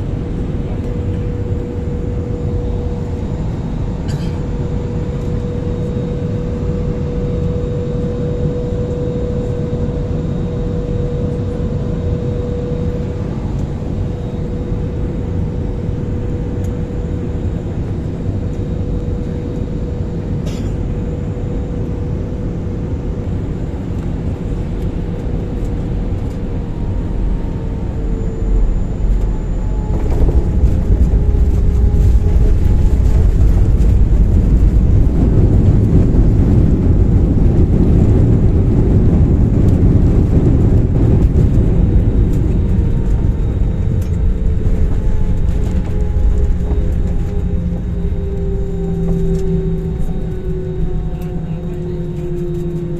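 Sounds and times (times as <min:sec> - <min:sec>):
airliner cabin engine rumble: 0:00.0 - 0:52.9
faint whine: 0:00.0 - 0:52.9.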